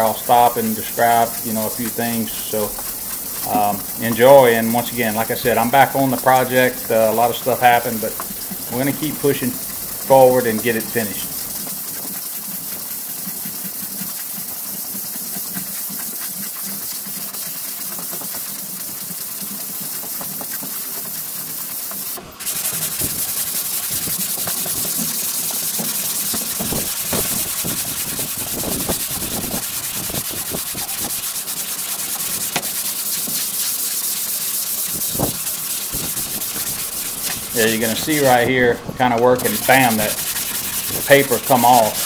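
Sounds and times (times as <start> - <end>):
sanding board rasping: 0.0 - 20.8, 21.5 - 38.5, 39.3 - 42.0.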